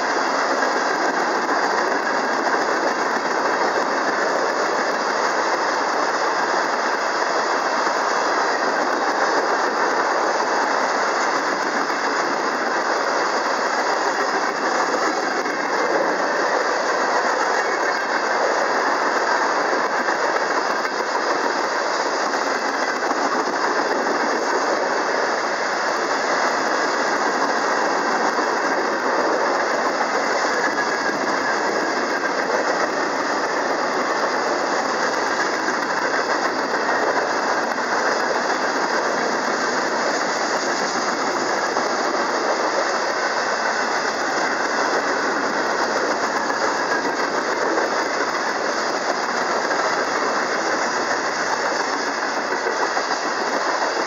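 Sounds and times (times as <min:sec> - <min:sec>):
wheels on rail with rattling: 0:00.0 - 0:54.0.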